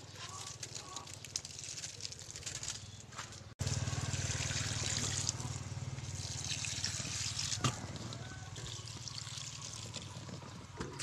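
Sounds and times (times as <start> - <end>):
liquid trickling onto soil: 0.0 - 10.6.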